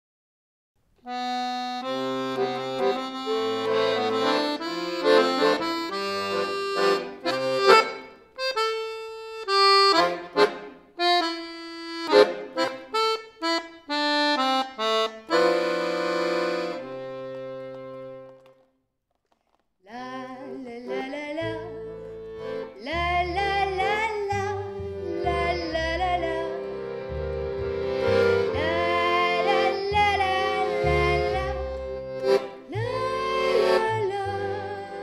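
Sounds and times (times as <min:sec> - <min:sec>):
solo accordion playing: 0:01.0 - 0:18.7, 0:20.2 - 0:35.0.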